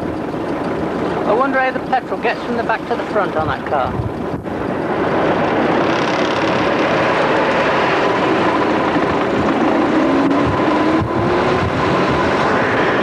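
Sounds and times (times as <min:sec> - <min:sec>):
car engine: 0:00.0 - 0:13.0
road noise: 0:00.0 - 0:13.0
wind noise on microphone: 0:00.0 - 0:13.0.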